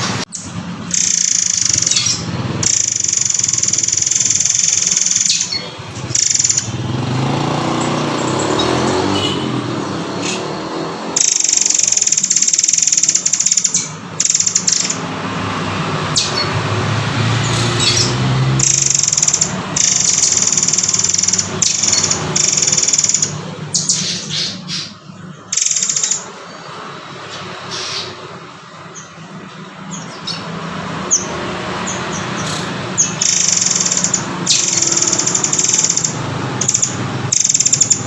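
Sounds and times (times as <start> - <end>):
songbird rasping trills: 0.3 - 15.2, 17.4 - 38.0.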